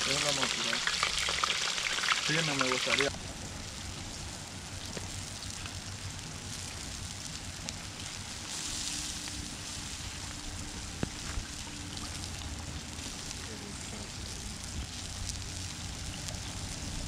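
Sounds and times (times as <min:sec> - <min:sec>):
fire crackling and hissing: 0:00.0 - 0:17.0.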